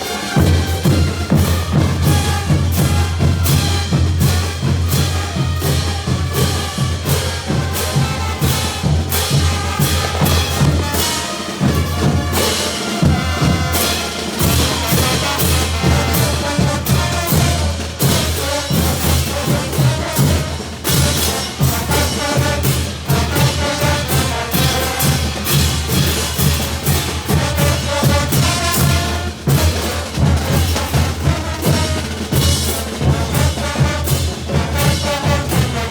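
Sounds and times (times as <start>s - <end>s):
bass drum and snare beating: 0.0s - 35.9s
brass band playing: 0.0s - 35.9s.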